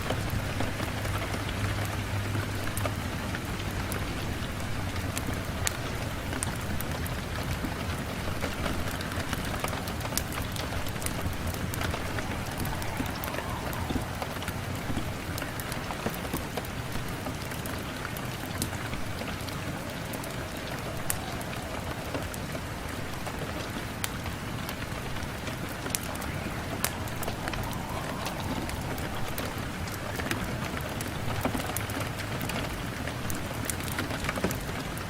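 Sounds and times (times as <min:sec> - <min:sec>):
rain on window glass: 0:00.0 - 0:35.0.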